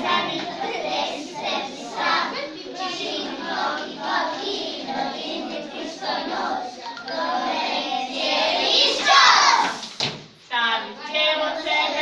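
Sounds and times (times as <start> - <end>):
children singing together: 0.0 - 9.9.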